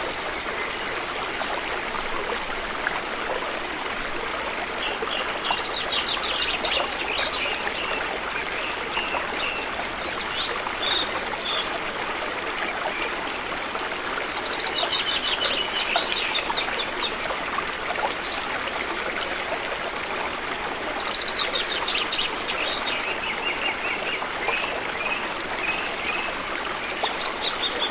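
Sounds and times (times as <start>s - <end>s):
river water flowing: 0.0s - 27.9s.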